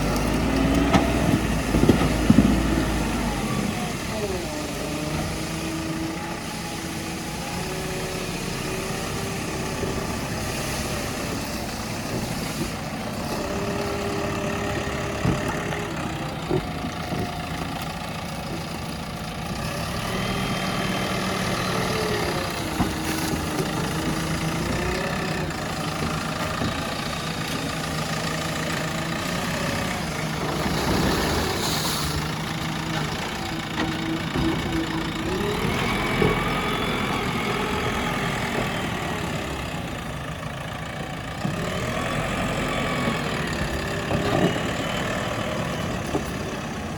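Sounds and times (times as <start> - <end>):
diesel engine working: 0.0 - 46.9.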